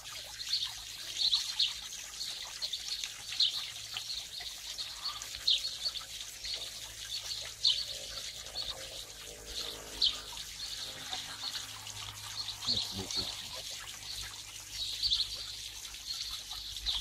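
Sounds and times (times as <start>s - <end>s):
water trickling: 0.0s - 17.0s
songbird chirping: 0.4s - 17.0s.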